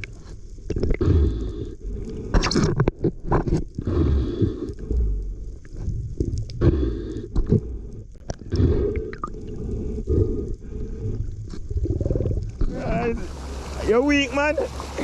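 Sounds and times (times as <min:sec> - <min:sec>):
sea water sloshing and gurgling: 0:00.0 - 0:15.0.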